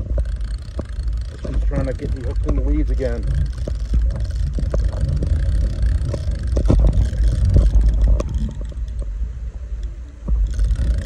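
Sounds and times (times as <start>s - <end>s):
fishing reel clicks and scrapes: 0.0s - 9.1s, 9.8s - 11.0s
microphone handling noise: 0.0s - 11.0s
wind rumble: 0.0s - 11.0s.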